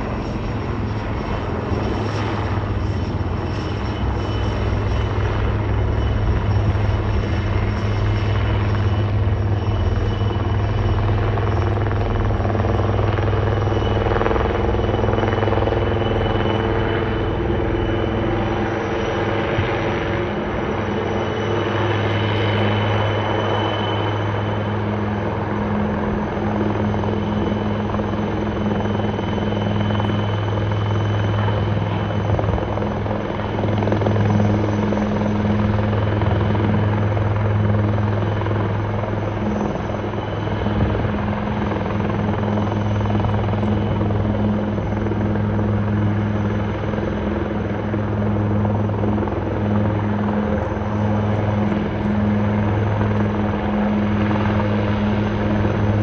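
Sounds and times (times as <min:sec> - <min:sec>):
helicopter rotors and engines drone: 0:00.0 - 0:56.0.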